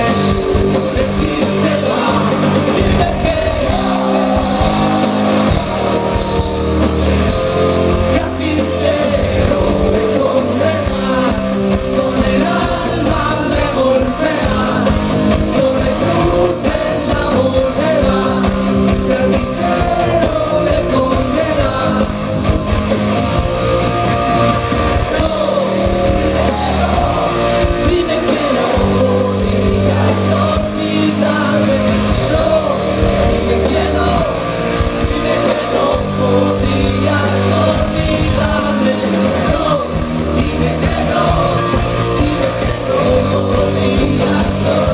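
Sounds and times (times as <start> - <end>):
live rock band playing: 0.0 - 44.9
person singing: 0.0 - 44.9.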